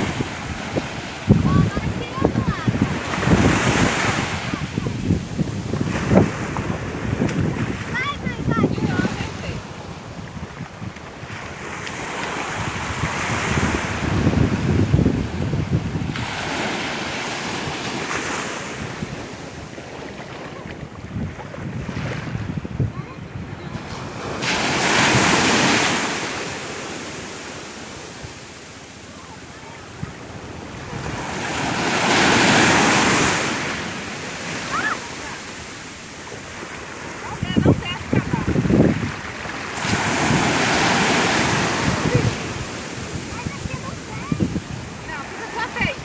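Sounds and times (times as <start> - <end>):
sea waves breaking: 0.0 - 46.0
wind buffeting microphone: 0.0 - 46.0.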